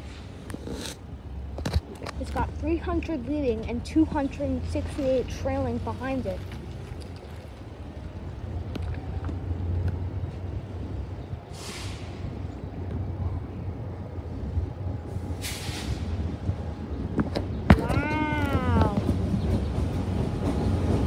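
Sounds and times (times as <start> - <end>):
locomotive rumble: 0.0 - 21.0.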